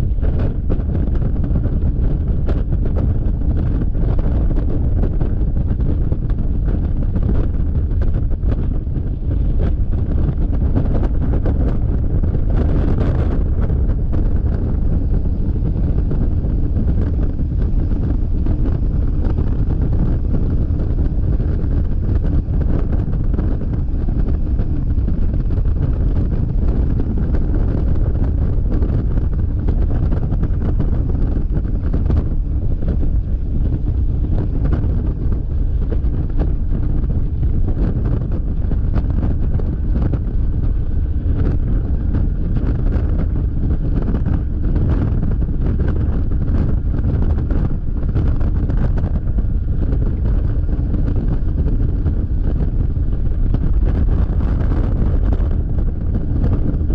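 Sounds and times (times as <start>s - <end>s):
scooter engine and road noise: 0.0s - 56.9s
wind buffeting microphone: 0.0s - 56.9s.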